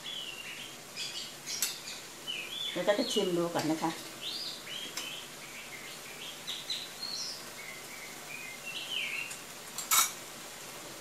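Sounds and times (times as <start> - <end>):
small birds chirping: 0.0 - 10.3
faint steady hiss: 0.0 - 11.0.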